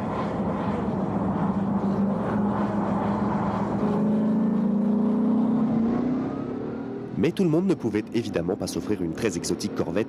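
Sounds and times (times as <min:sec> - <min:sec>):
car engine running while driving: 0:00.0 - 0:10.0.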